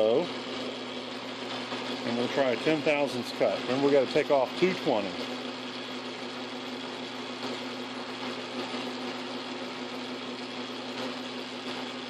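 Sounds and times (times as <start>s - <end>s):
lathe motor humming: 0.0s - 12.0s.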